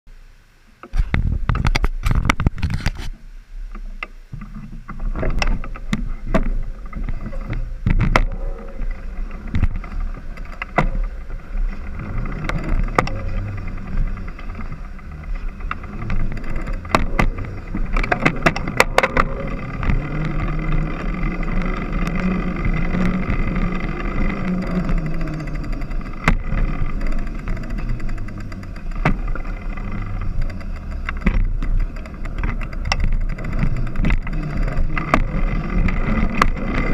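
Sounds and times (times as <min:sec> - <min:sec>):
low hum: 0:00.1 - 0:36.9
bicycle tyres rumbling on pavement: 0:04.4 - 0:36.9
bike frame and chain clicking: 0:04.5 - 0:36.9.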